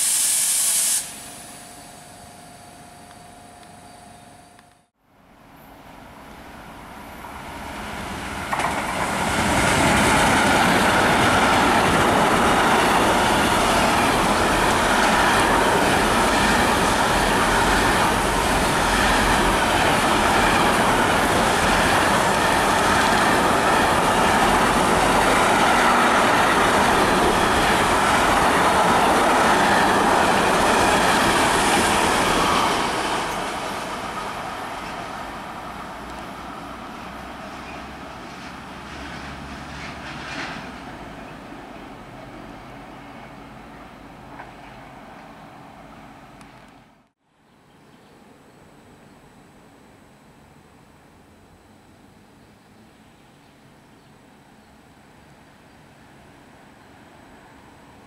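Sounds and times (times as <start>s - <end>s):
freight train rumble: 0.0s - 46.5s.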